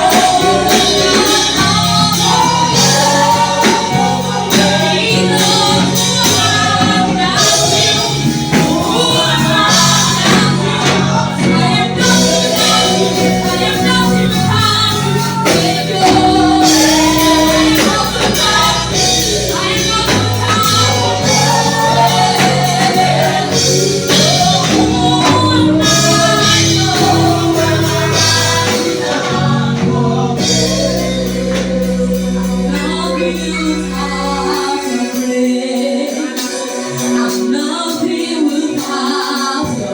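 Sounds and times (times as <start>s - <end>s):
held low instrumental chords: 0.0s - 35.2s
gospel choir singing: 0.0s - 39.9s.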